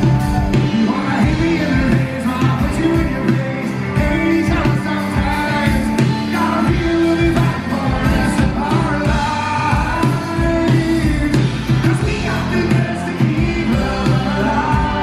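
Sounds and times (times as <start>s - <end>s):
live rock band playing: 0.0s - 15.0s
man singing: 0.0s - 15.0s.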